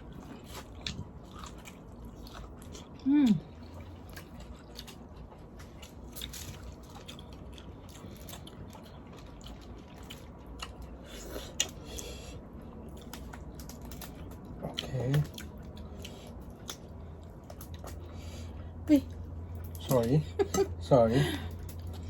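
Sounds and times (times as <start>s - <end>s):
chewing: 0.0s - 20.6s, 21.5s - 22.0s.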